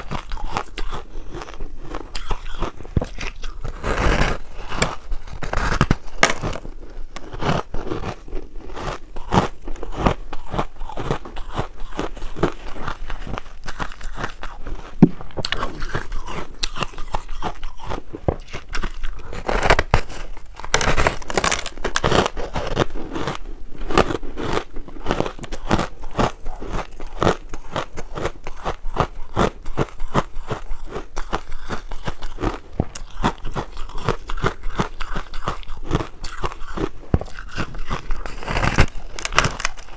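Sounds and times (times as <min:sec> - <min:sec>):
teeth crunching ice: 0:00.0 - 0:39.9.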